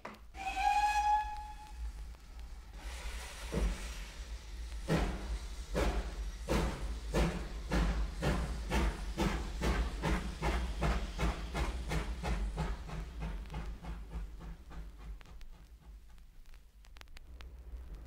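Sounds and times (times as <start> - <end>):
steady steam hiss: 0.2 - 18.0
steam locomotive exhaust chuffs: 0.4 - 16.4.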